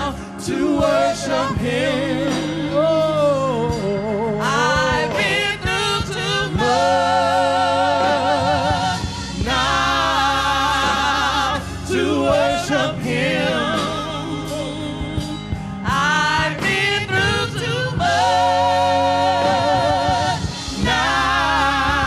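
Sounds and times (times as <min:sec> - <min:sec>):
lead singer with vibrato: 0:00.0 - 0:22.0
organ and bass accompaniment: 0:00.0 - 0:22.0.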